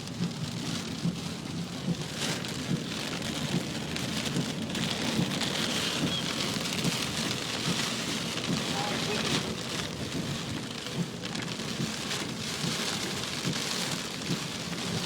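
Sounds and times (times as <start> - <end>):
heavy rain on a car: 0.0 - 15.0.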